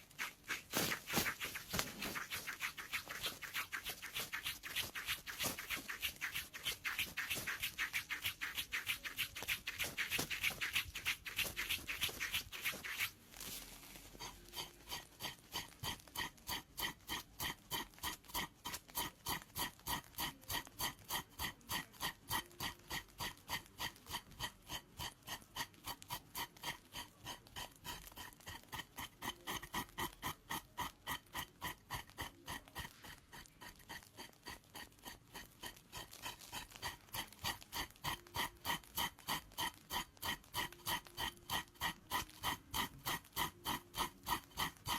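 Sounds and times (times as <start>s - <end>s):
blade scraping skin: 0.0s - 44.9s.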